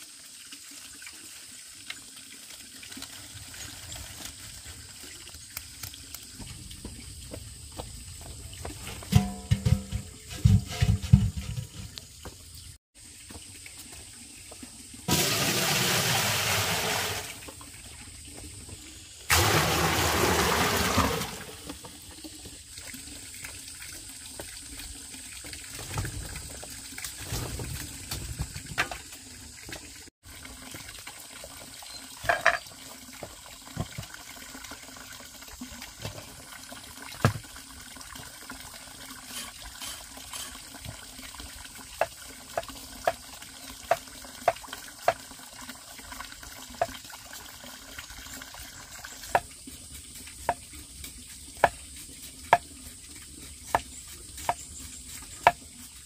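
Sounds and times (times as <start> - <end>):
water pouring and splashing: 0.0 - 56.0.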